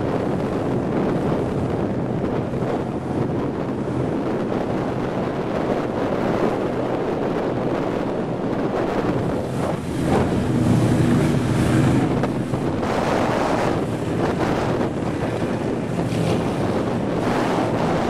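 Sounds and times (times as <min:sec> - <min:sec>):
powerboat engine drone: 0:00.0 - 0:18.0
water rushing past hull: 0:00.0 - 0:18.0
wind buffeting microphone: 0:00.0 - 0:18.0.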